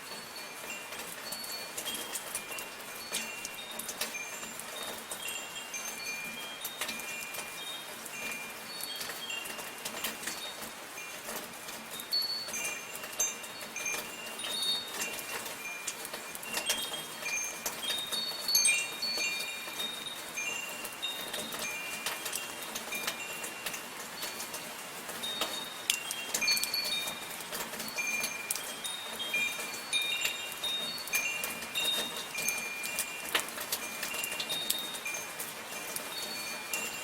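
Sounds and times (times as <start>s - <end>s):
metal wind chimes ringing: 0.0s - 37.0s
soft rain hiss: 0.0s - 37.0s.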